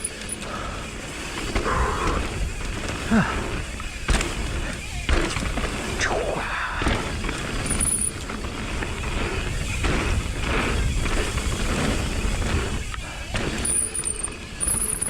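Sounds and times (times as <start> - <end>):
bike rattling over bumps: 0.0 - 15.0
bike tyre noise: 0.0 - 15.0.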